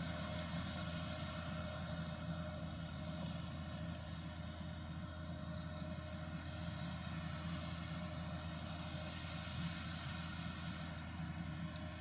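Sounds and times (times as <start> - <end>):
harvester engine drone: 0.0 - 12.0.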